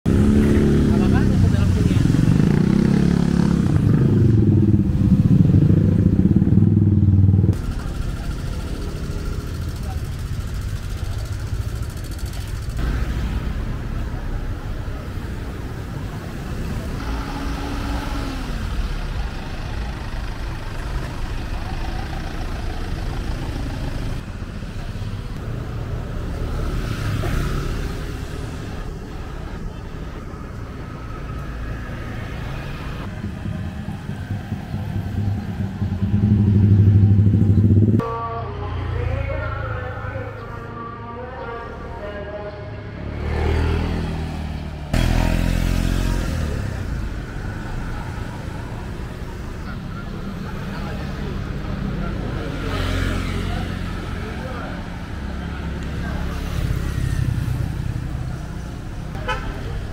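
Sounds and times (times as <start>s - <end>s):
traffic rumble: 0.0s - 59.9s
engine passing close: 0.1s - 40.7s, 41.4s - 59.9s.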